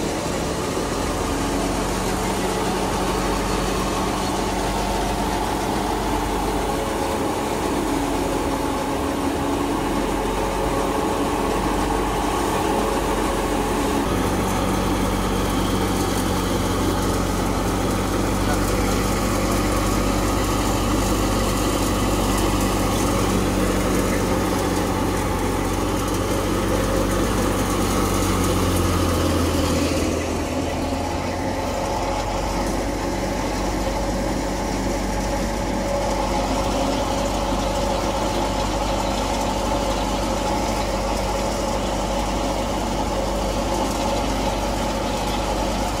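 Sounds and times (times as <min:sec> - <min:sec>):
threshing machine engine drone: 0:00.0 - 0:46.0.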